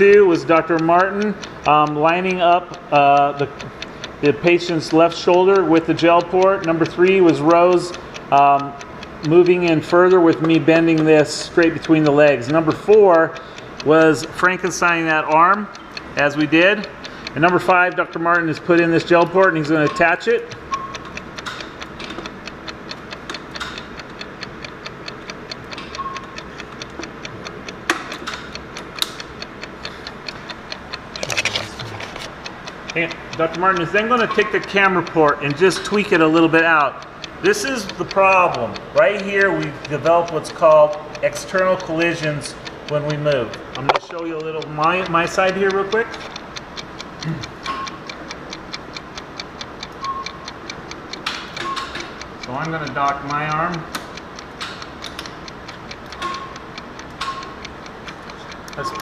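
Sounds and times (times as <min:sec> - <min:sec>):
rapid even ticking: 0:00.0 - 0:59.0
sharp clicks: 0:00.0 - 0:59.0.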